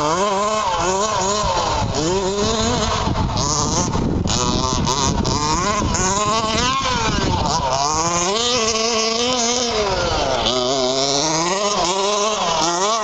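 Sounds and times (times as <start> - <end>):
small two-stroke engines revving: 0.0 - 13.0.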